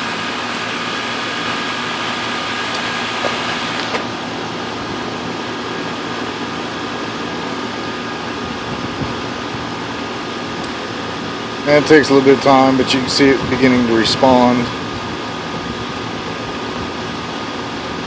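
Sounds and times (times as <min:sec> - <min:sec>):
heat pump mechanical whir: 0:00.0 - 0:18.0.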